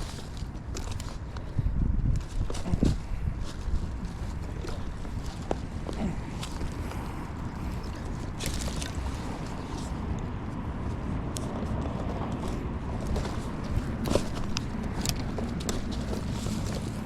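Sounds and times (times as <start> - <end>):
scrapes and rustles: 0.0 - 17.0
wind rumble on microphone: 0.0 - 17.0.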